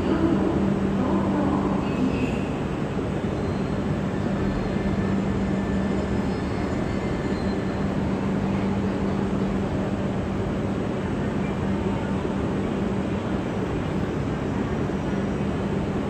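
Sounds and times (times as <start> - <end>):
train rumbling slowly: 0.0 - 16.0.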